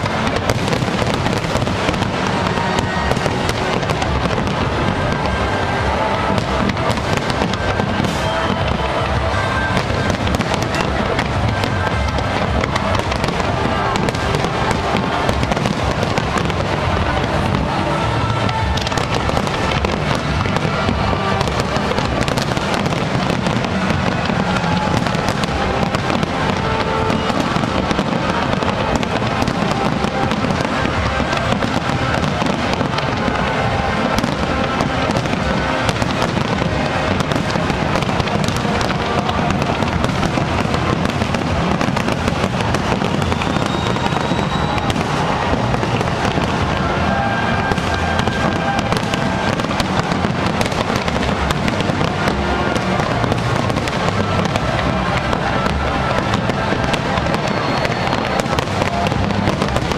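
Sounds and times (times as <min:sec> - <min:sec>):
fireworks bangs and crackling: 0:00.0 - 0:59.9
music playing: 0:00.0 - 0:59.9.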